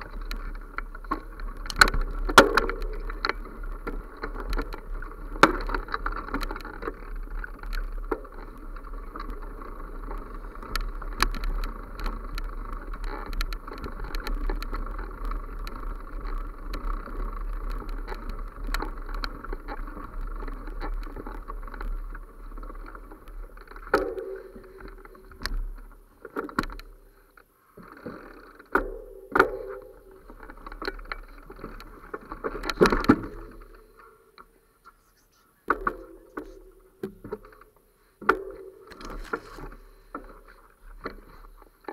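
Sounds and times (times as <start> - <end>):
camera movement rumbling rustle: 0.0 - 41.9.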